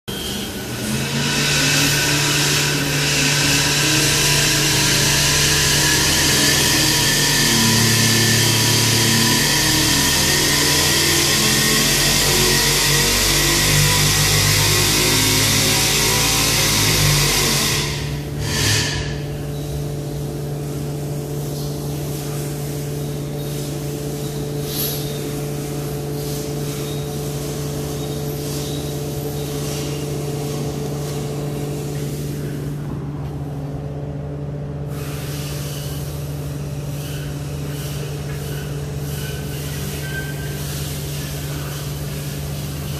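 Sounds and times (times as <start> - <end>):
engine running hard on dyno: 0.0 - 42.9.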